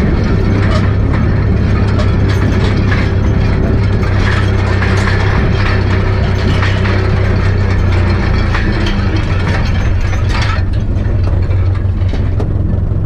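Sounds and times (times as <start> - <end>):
diesel tractor engine running: 0.0 - 13.0
metallic rattling: 0.0 - 13.0.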